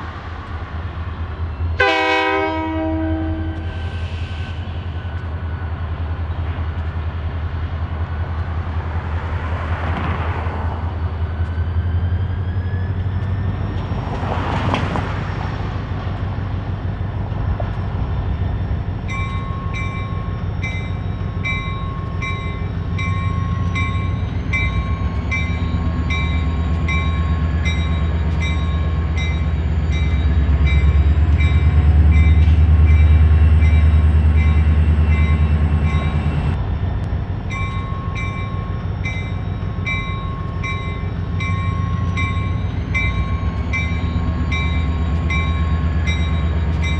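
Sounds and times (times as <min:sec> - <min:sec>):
diesel locomotive engine: 0:00.0 - 0:46.9.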